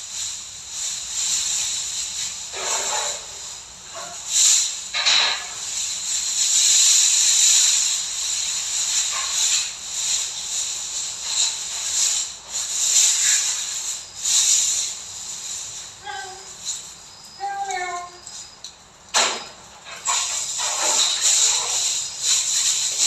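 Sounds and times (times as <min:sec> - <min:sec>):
loud high-pitched hissing: 0:00.0 - 0:23.0.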